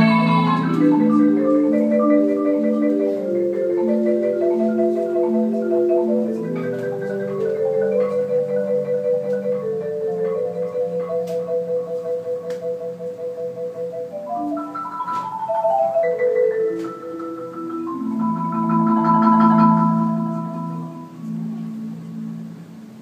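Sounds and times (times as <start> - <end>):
solo marimba melody: 0.0 - 23.0.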